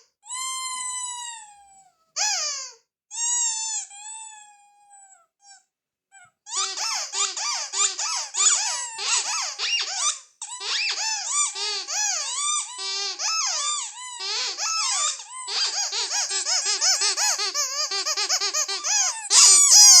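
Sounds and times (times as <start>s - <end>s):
rubber squeeze toy squeaking: 0.0s - 20.0s.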